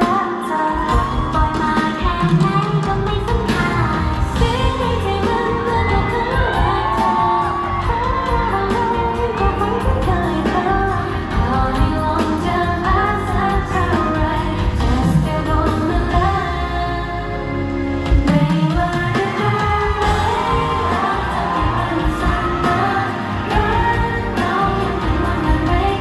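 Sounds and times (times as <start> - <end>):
amplified backing track with beat: 0.0 - 26.0
woman singing pop song: 0.0 - 26.0.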